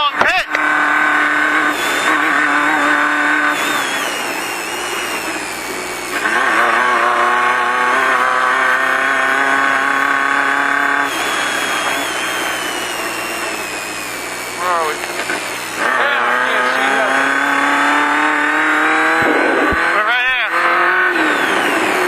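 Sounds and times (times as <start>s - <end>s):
race car engine at high revs: 0.0s - 22.0s.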